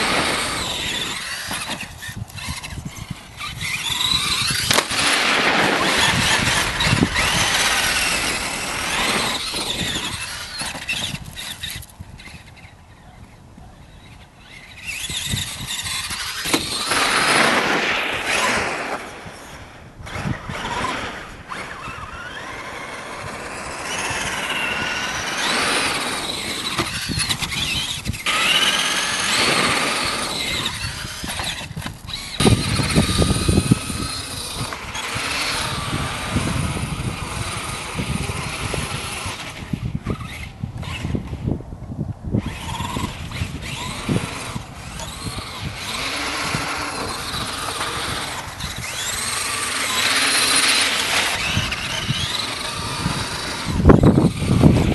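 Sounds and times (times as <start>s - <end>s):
electric motor whining: 0.0s - 41.6s, 42.3s - 54.9s
tyres on snow and ice: 0.0s - 41.6s, 42.3s - 54.9s.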